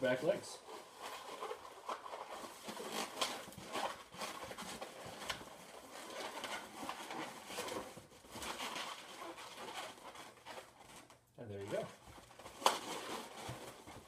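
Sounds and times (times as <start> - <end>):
balloons squeaking and rubbing: 0.0 - 14.0.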